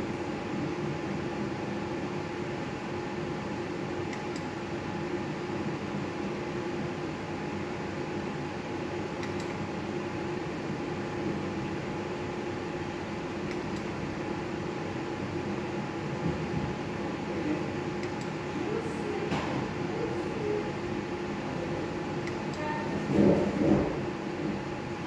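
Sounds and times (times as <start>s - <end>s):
fan or air conditioning hum: 0.0s - 25.0s.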